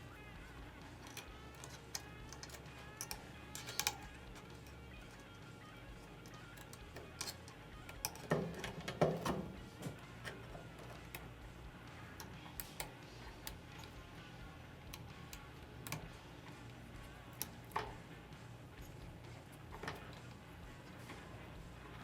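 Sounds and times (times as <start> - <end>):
metal parts clicking and knocking: 0.7 - 22.0.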